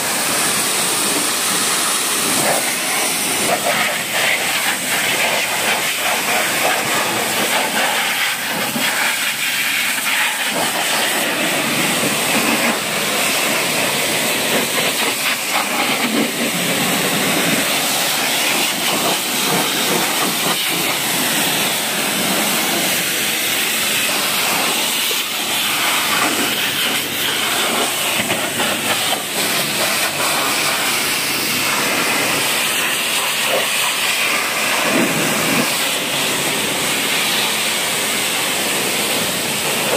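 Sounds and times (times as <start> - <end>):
pressure washer spraying water: 0.0 - 39.9
water spattering off metal: 0.1 - 39.9.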